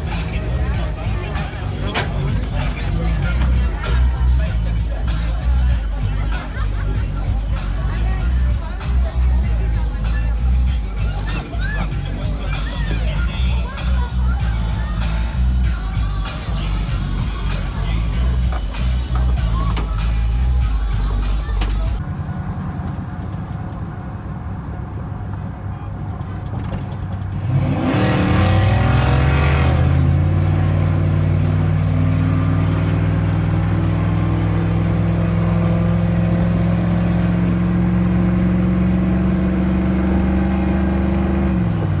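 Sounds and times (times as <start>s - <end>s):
truck engine revving: 0.0s - 25.2s, 26.0s - 42.0s.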